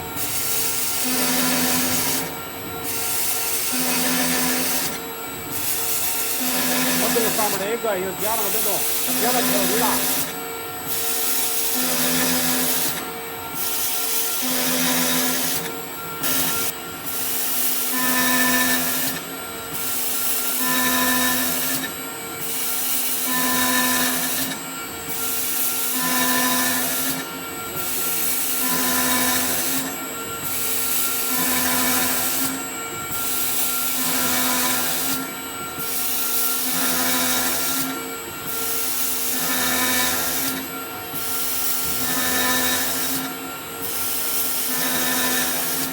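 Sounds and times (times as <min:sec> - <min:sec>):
milling machine cutting metal: 0:00.0 - 0:45.9.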